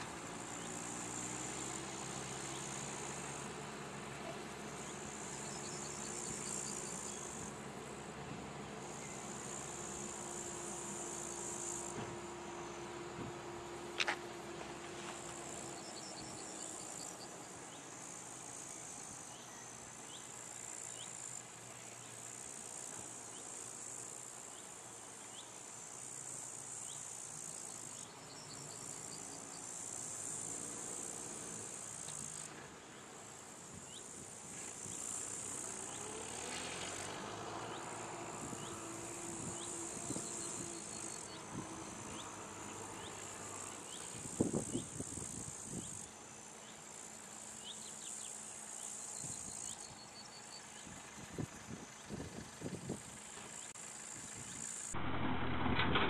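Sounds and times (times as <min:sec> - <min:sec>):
faint tractor engine: 0:00.0 - 0:56.0
insects stridulating: 0:00.0 - 0:56.0.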